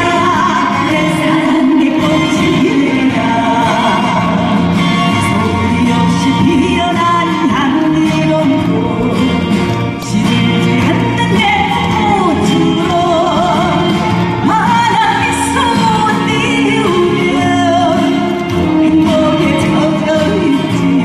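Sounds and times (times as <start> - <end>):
band playing: 0.0 - 21.0
woman singing with vibrato: 0.0 - 21.0.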